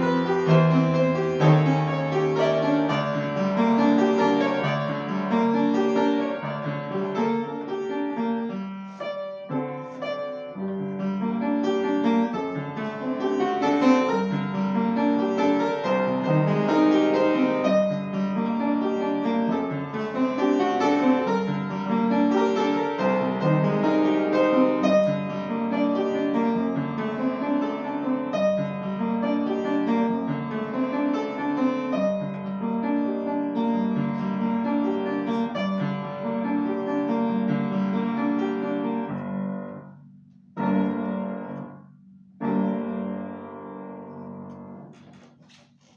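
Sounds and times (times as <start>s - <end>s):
solo piano classical piece: 0.0s - 45.9s.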